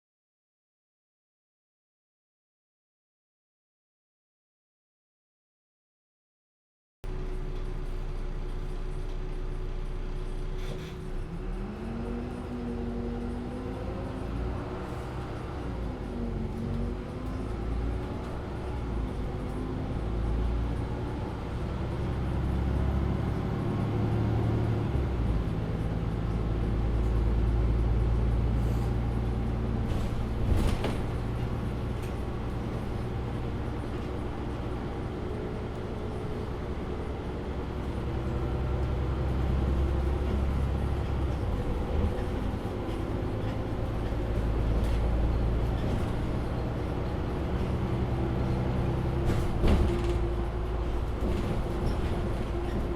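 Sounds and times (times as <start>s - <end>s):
bus engine hum: 7.0s - 52.9s.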